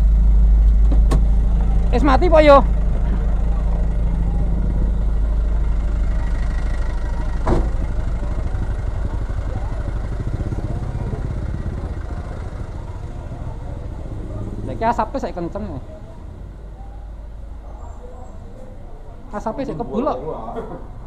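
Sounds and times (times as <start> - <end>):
fire truck engine idling: 0.0 - 21.0.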